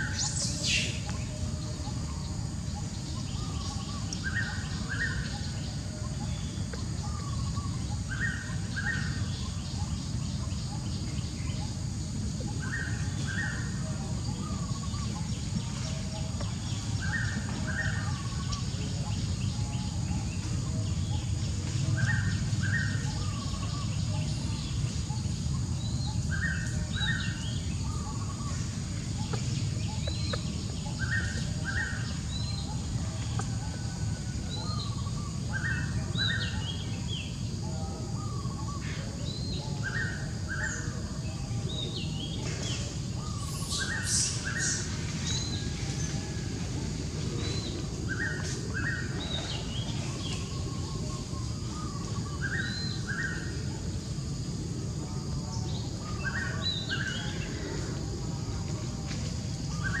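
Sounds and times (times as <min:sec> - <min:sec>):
birds calling: 0:00.0 - 1:00.0
low outdoor background noise: 0:00.0 - 1:00.0.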